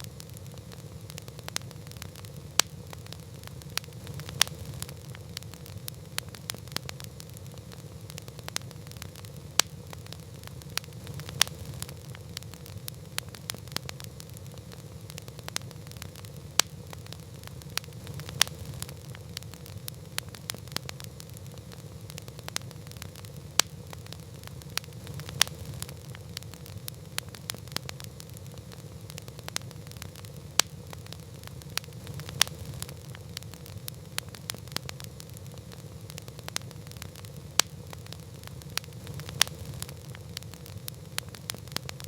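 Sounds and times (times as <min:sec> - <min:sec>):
burning wood rumbling: 0:00.0 - 0:42.0
campfire popping and snapping: 0:00.0 - 0:42.0.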